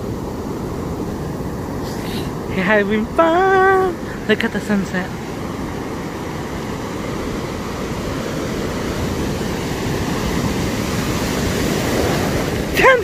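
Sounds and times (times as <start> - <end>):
wind buffeting microphone: 0.0 - 4.3, 5.0 - 13.0
ocean surf rushing: 0.0 - 13.0.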